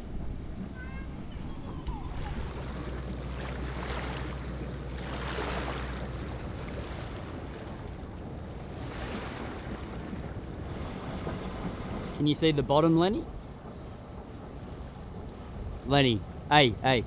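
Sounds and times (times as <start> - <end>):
low steady hum: 0.0 - 17.0
water rushing along boat hull: 1.7 - 17.0.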